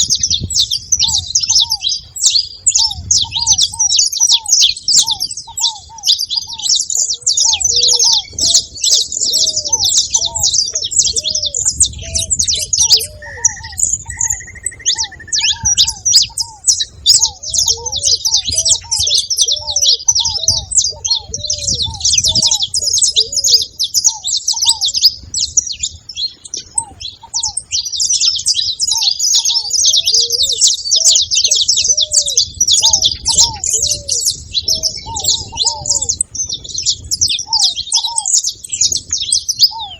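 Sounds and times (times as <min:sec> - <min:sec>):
dove cooing: 0:00.0 - 0:39.9
finches chirping: 0:00.0 - 0:39.9.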